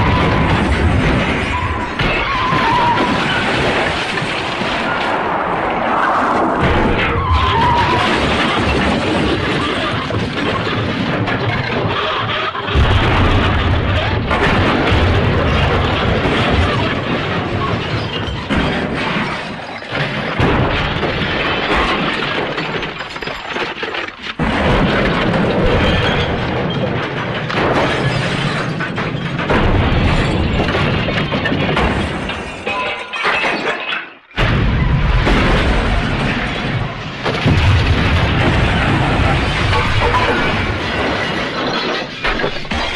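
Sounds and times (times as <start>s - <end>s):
booms: 0.0s - 42.9s
crash and smash effects: 0.0s - 42.9s
glass breaking: 7.5s - 42.9s.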